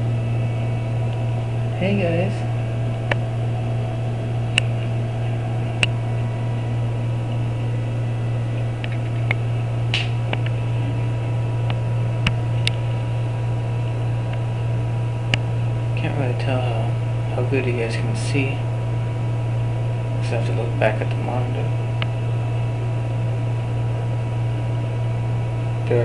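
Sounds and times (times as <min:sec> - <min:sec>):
electrical hum with hiss: 0:00.0 - 0:26.0.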